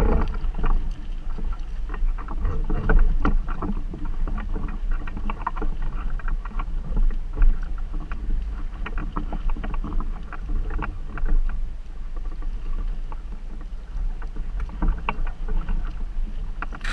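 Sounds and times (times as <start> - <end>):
wind buffeting microphone: 0.0 - 11.7, 12.7 - 16.9
water splashing against a boat: 0.0 - 16.9.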